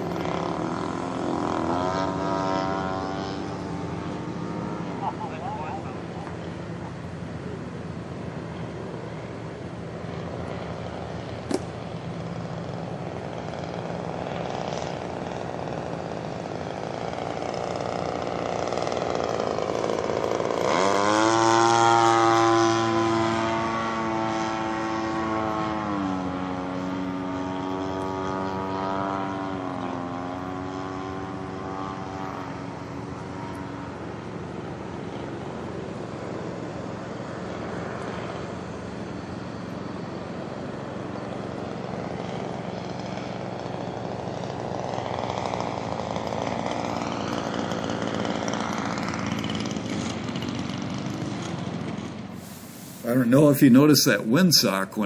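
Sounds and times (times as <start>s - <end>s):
model plane engine buzzing: 0.0s - 53.4s.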